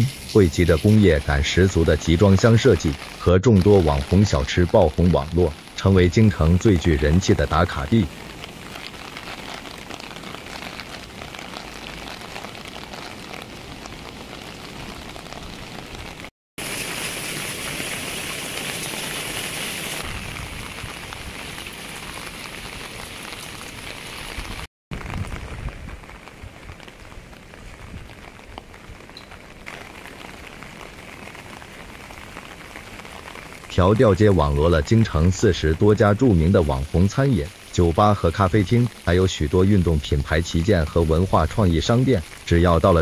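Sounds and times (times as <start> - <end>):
rain splashing on ground: 0.0 - 43.0.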